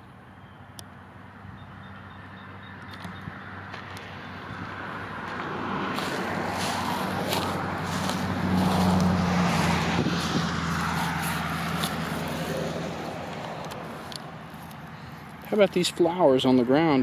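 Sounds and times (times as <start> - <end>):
road vehicle passing by: 1.0 - 17.0.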